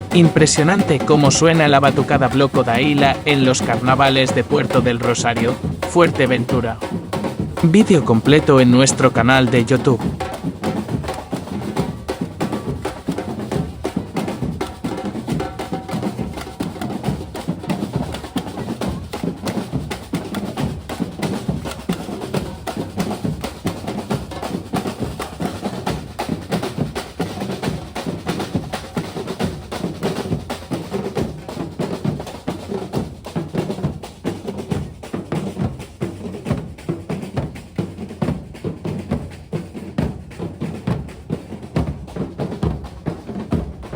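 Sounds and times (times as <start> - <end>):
samba percussion ensemble: 0.0 - 43.9.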